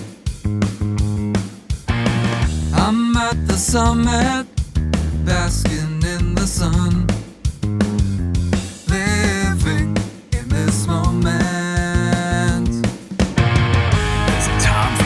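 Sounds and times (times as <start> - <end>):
rock song with guitar: 0.8 - 15.0.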